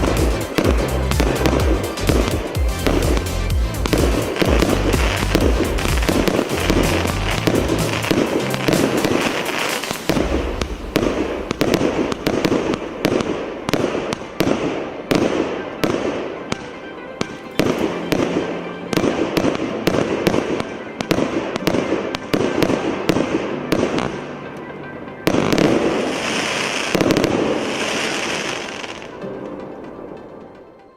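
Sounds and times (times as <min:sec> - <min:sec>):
fireworks launches and bursts: 0:00.0 - 0:24.3, 0:25.2 - 0:29.9.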